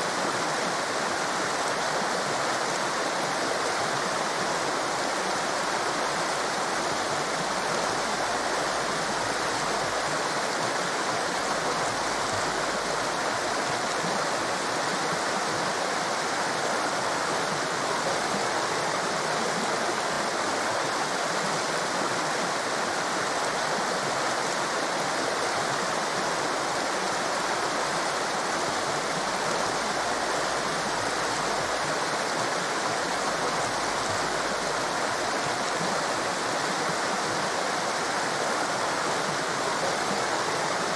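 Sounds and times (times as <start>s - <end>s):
fast-flowing water rushing: 0.0s - 40.9s.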